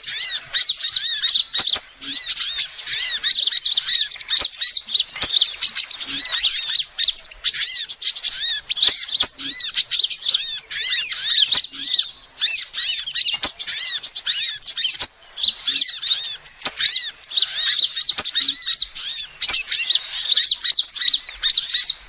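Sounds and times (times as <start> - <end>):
sunbird high-pitched chirps: 0.0 - 22.0.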